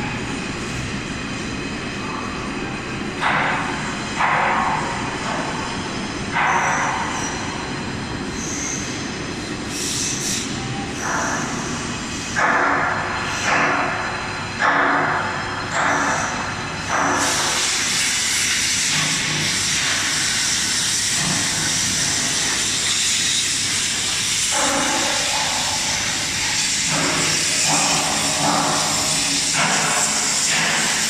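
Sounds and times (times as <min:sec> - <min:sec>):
machinery hissing: 0:00.0 - 0:31.0.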